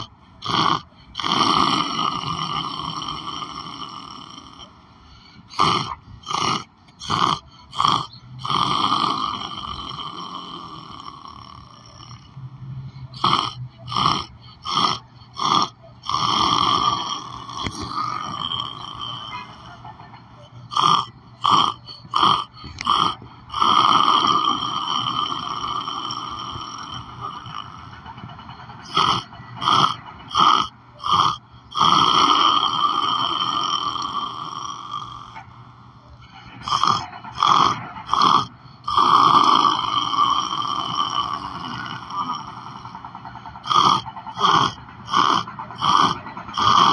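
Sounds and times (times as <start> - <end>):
man snoring: 0.0 - 28.2, 28.8 - 46.9.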